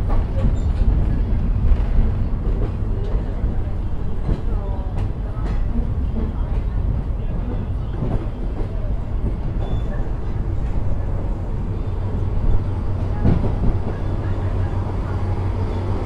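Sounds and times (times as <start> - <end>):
diesel train rumbling: 0.0 - 16.0.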